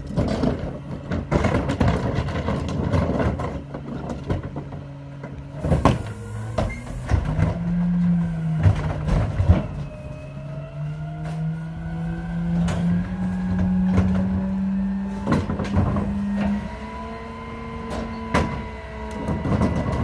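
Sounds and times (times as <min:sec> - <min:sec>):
diesel engine running: 0:00.0 - 0:20.0
hydraulic hum: 0:00.0 - 0:20.0.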